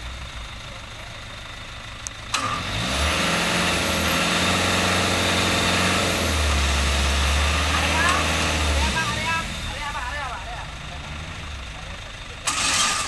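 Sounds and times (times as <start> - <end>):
engine idling and revving: 0.0 - 13.0.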